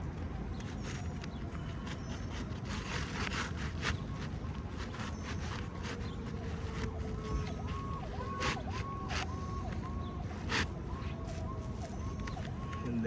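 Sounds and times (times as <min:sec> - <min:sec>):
roofing shingle scraping: 0:00.4 - 0:13.0.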